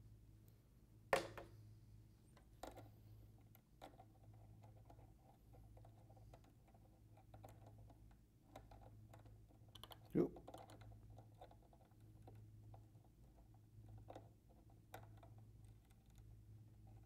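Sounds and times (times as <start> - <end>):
faint metal clicks and taps: 2.3 - 16.3.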